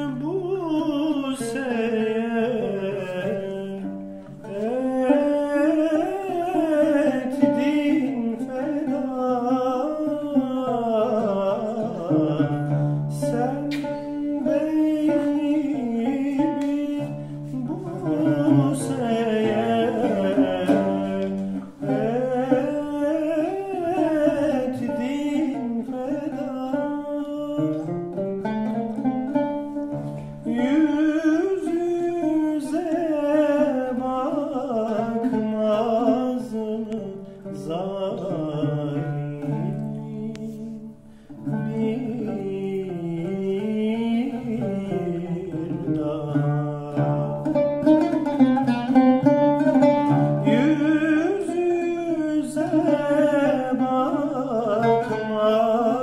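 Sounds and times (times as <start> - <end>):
man singing: 0.0 - 56.0
plucked oud: 0.0 - 56.0.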